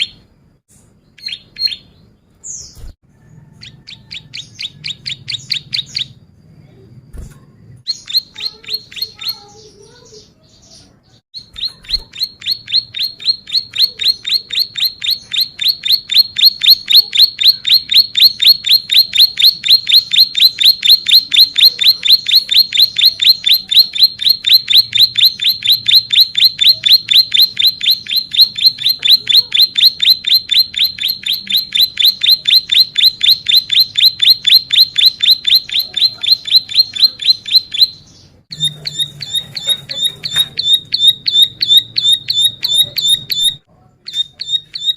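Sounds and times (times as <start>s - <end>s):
bird singing different notes: 0.0s - 0.3s, 1.0s - 6.4s, 7.8s - 44.9s
bird trilling: 1.1s - 6.3s, 7.9s - 10.4s, 11.4s - 44.9s.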